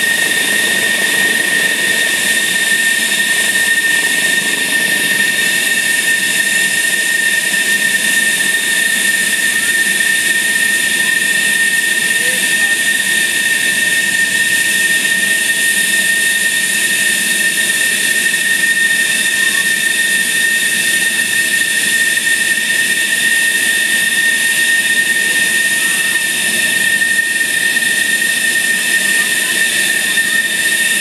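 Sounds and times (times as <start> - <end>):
jet engine idling: 0.0 - 31.0.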